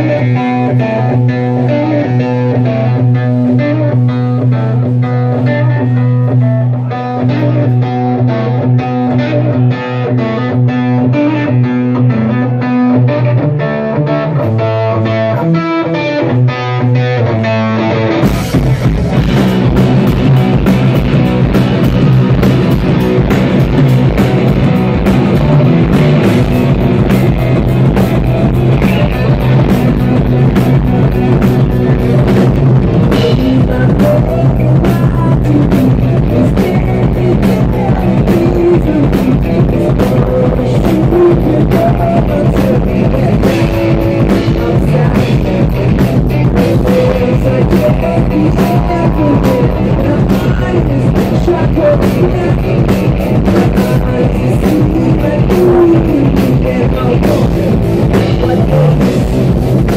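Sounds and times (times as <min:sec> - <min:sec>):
electric guitar picked riff: 0:00.0 - 0:59.9
rock band playing: 0:00.0 - 0:59.9.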